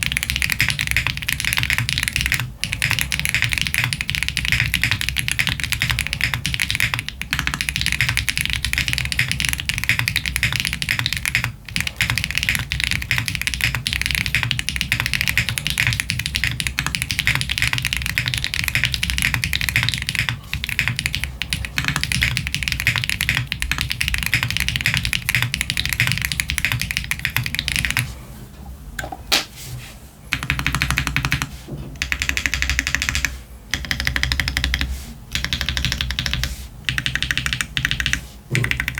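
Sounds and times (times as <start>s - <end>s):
mechanical keyboard typing: 0.0s - 28.1s, 30.3s - 38.9s.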